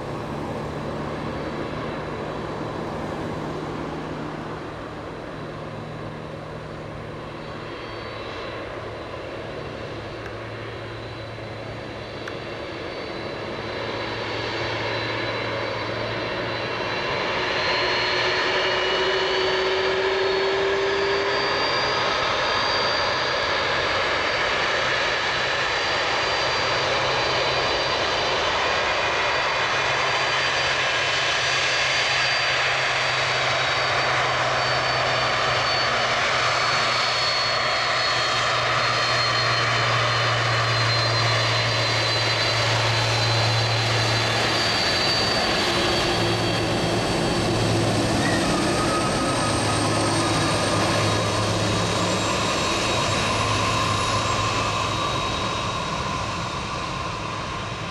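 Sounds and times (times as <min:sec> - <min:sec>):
jet engines taxiing: 0:00.0 - 0:57.9.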